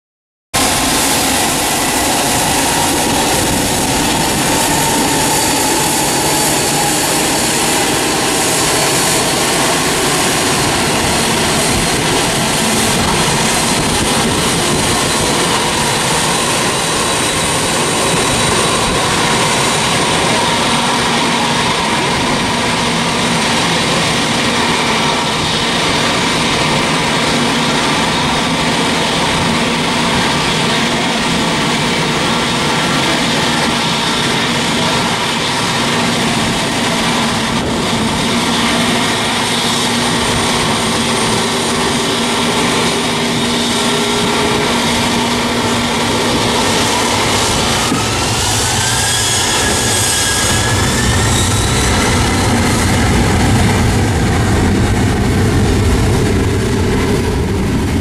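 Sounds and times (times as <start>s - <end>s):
jet engines rumbling: 0.6s - 58.0s.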